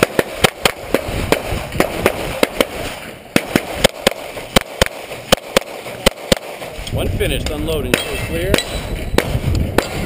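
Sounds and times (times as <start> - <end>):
pistol shots: 0.0 - 6.9, 7.9 - 10.0.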